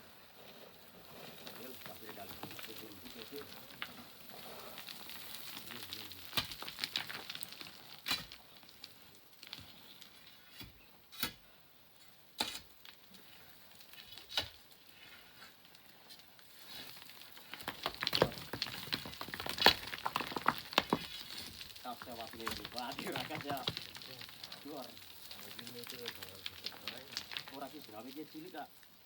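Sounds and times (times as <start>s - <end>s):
sand and pebbles trickling: 0.0s - 10.9s, 12.0s - 29.0s
small stones clicking: 1.0s - 10.8s, 12.7s - 29.0s.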